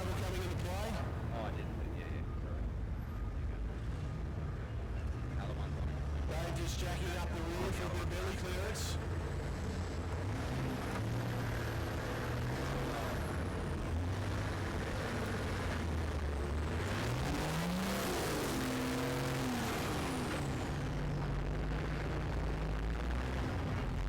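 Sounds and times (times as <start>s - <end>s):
truck engine revving: 0.0s - 2.0s, 6.2s - 24.0s.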